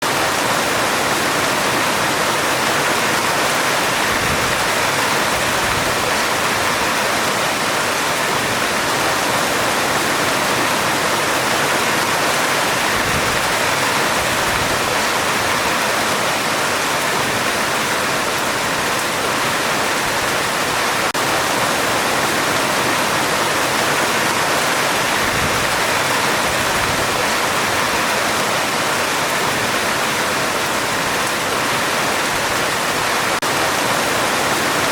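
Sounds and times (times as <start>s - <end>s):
heavy rain on metal roof: 0.0s - 34.9s.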